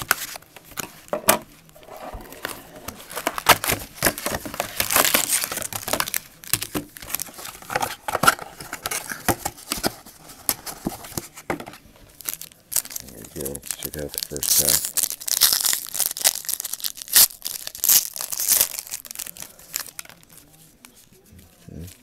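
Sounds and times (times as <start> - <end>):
plastic wrapping crinkling and tearing: 0.0 - 11.4, 12.1 - 22.0.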